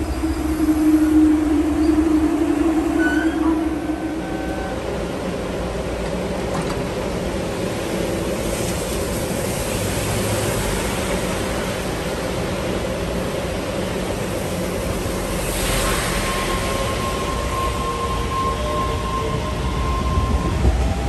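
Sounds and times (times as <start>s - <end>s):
subway train rumbling on rails: 0.0s - 21.0s.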